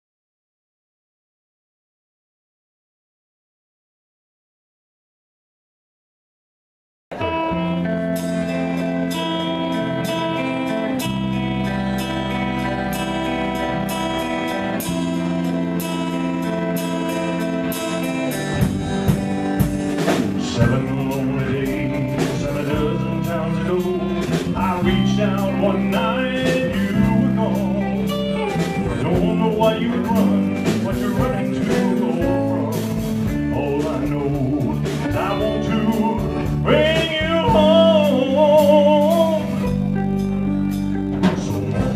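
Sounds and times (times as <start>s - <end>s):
drums: 7.1s - 41.9s
live band playing: 7.1s - 41.9s.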